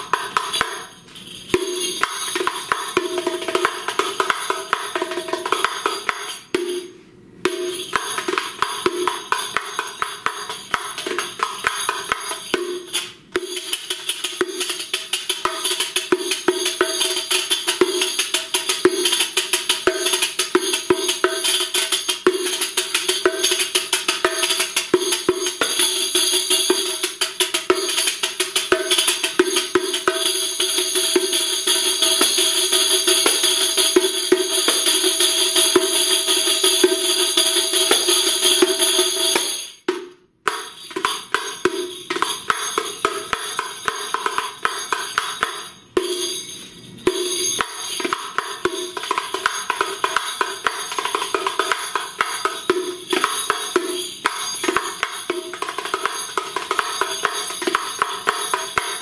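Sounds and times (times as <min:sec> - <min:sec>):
frame tambourine played with fingers: 0:00.0 - 0:59.0.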